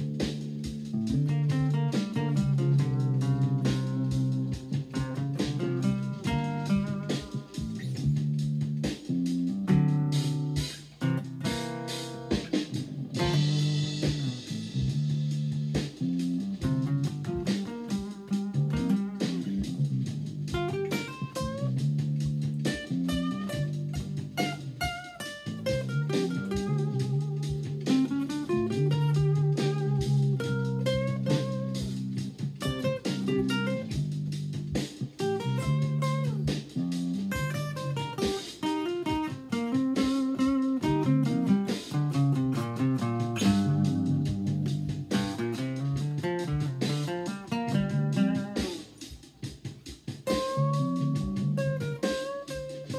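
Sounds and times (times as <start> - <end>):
acoustic guitar blues: 0.0 - 14.7, 15.7 - 49.1, 50.2 - 52.9.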